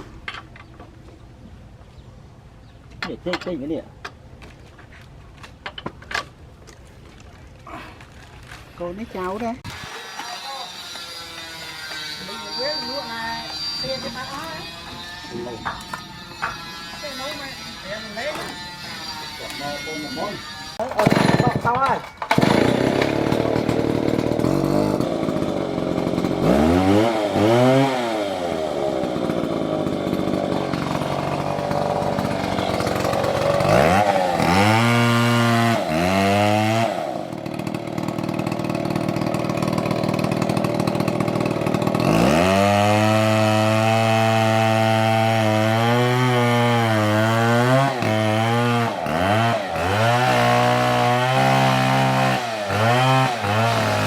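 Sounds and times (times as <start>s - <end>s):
chainsaw cutting wood: 9.2s - 54.0s.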